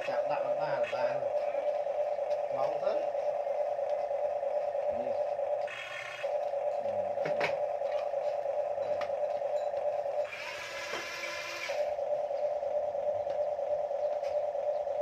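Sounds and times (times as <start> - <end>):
toy excavator motors whirring: 0.0 - 15.0.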